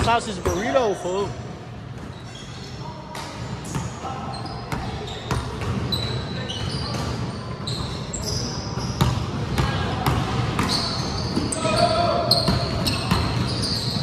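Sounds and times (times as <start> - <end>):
sneaker squeaks: 0.0 - 1.2, 1.9 - 14.0.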